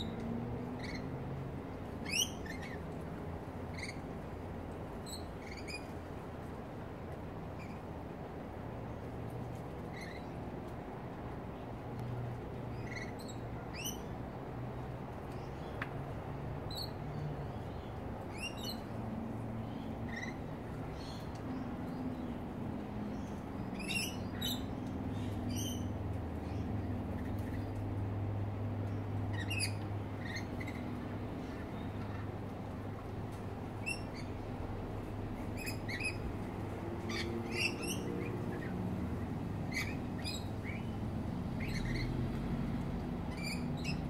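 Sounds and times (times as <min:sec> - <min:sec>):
birds high-pitched calls: 0:00.0 - 0:06.1, 0:07.5 - 0:07.9, 0:09.5 - 0:10.5, 0:12.6 - 0:14.2, 0:16.6 - 0:28.2, 0:28.8 - 0:44.0.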